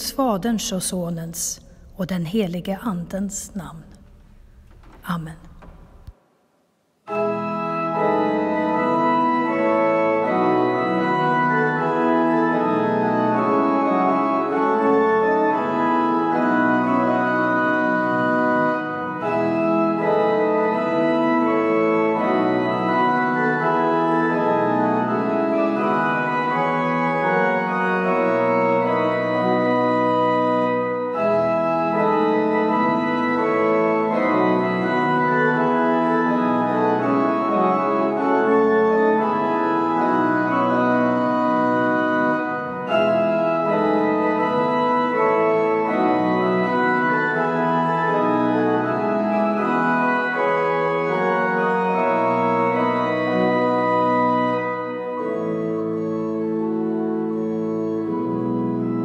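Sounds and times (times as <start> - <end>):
organ playing chords: 7.0 - 59.0.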